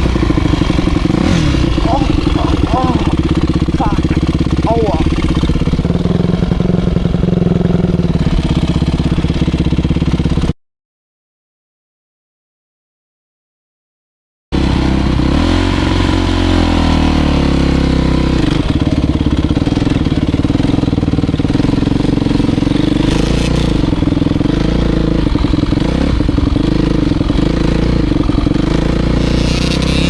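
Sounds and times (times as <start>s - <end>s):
dirt bike engine running: 0.0s - 10.6s, 14.6s - 30.0s.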